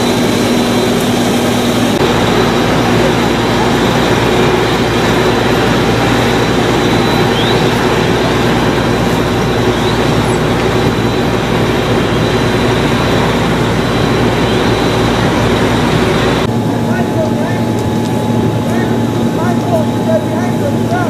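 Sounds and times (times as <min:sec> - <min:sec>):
loud steady engine hum: 0:00.0 - 0:21.0.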